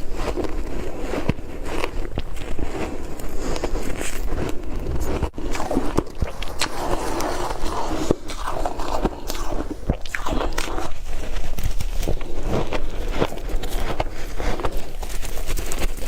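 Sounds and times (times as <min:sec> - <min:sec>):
ice crunching in mouth: 0:00.0 - 0:16.0.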